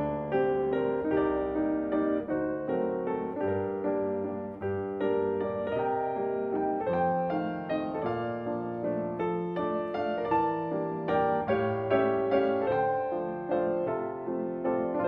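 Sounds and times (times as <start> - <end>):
solo grand piano: 0.0 - 15.0.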